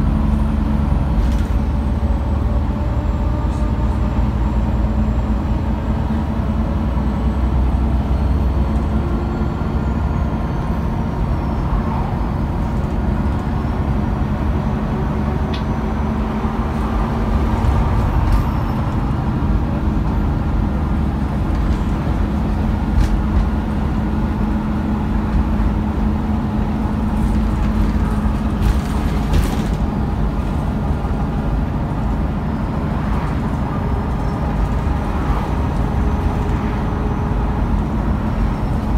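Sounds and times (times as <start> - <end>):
bus engine drone: 0.0 - 38.9
road rumble: 0.0 - 38.9.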